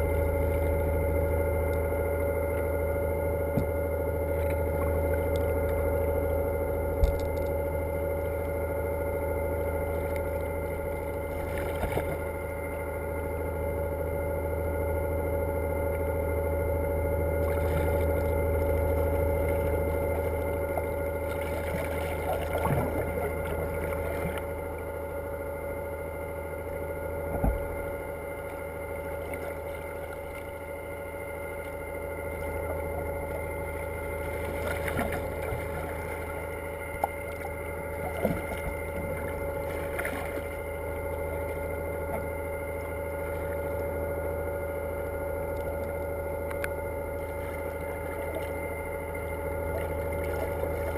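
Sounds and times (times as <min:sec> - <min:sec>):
motorboat engine running: 0:00.0 - 0:50.9.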